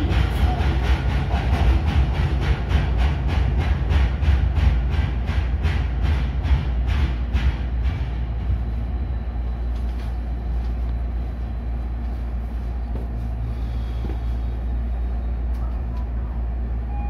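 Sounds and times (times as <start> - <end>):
electric train cab hum and rumble: 0.0 - 17.0.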